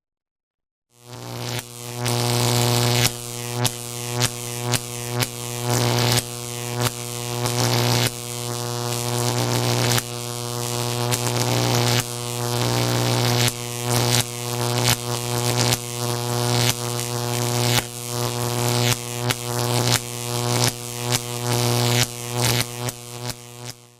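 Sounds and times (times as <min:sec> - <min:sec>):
electrical buzzing zaps: 0:01.0 - 0:23.7.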